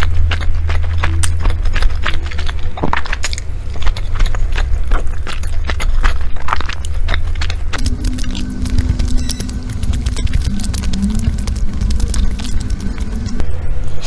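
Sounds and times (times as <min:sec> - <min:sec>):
wet chewing mouth sounds: 0:00.0 - 0:13.4
steady low hum: 0:00.0 - 0:14.0.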